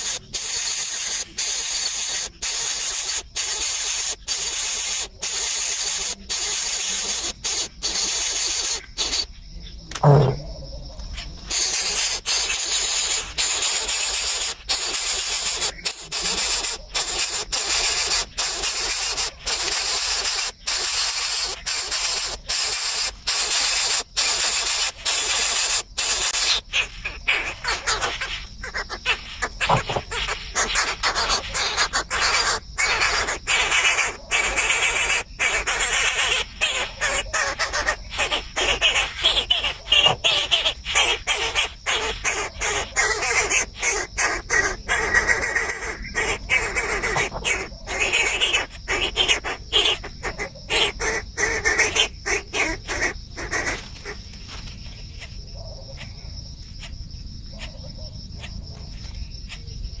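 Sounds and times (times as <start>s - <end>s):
birds chirping: 0.0s - 56.9s
insect drone: 0.0s - 60.0s.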